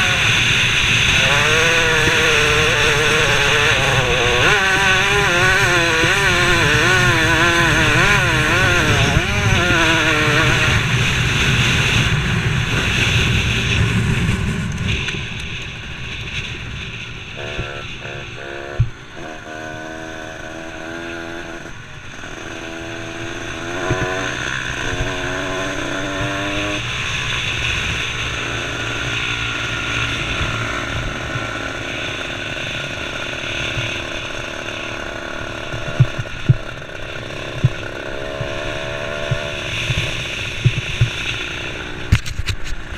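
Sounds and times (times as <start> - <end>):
wind rushing over microphone: 0.0 - 34.4
motocross bike engine racing: 0.0 - 42.9.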